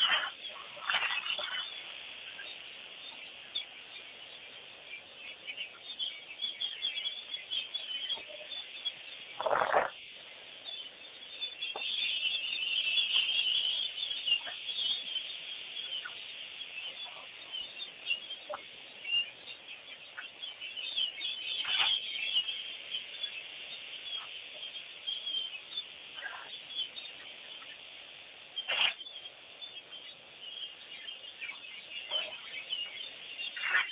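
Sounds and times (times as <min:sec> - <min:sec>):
wild birds chirping: 0:00.0 - 0:33.9.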